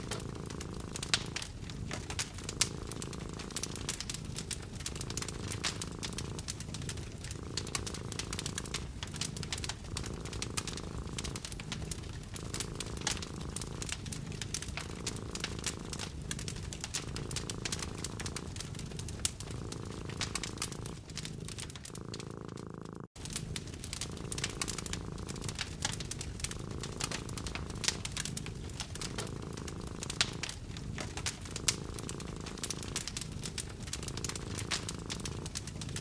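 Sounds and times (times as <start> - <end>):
cat purring: 0.0 - 36.0
wood fire crackling: 0.0 - 36.0.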